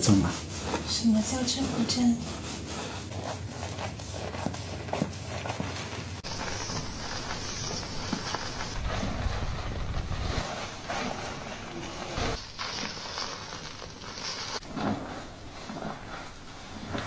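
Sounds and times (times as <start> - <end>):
fingers scratching through hair: 0.0 - 17.0.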